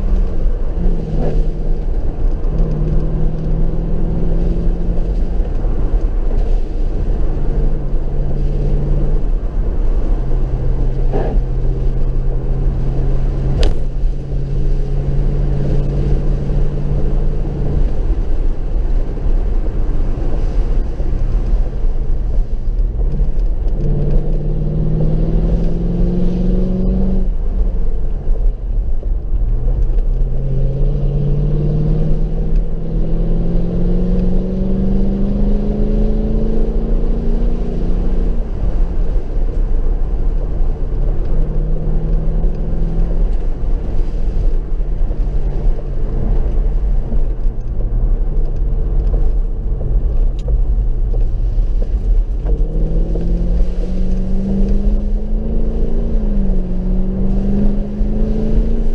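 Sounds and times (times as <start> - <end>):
car engine accelerating: 0.0 - 58.9
low road rumble: 0.0 - 58.9.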